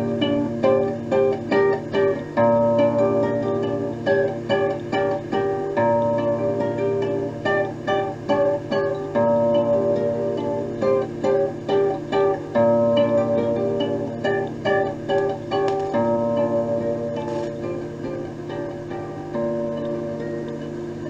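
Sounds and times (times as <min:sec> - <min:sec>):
plucked-string tune with bass: 0:00.0 - 0:21.0.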